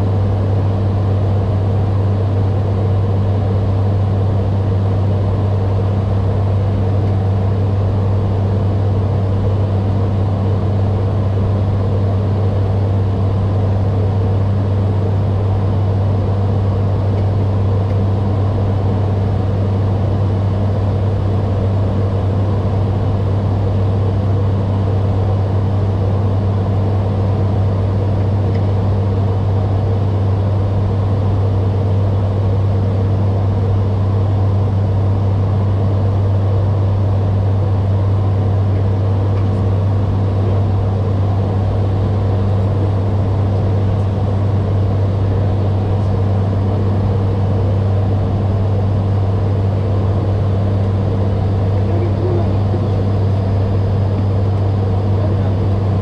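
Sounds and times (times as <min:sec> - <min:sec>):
turboprop engines droning: 0:00.0 - 0:56.0.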